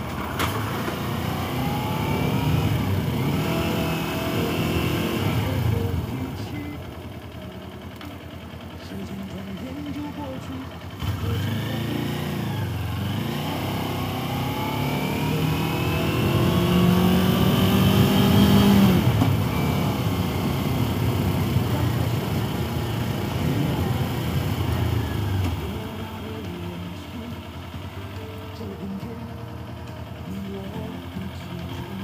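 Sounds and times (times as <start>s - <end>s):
motorcycle engine revving: 0.0s - 7.3s, 9.3s - 32.0s.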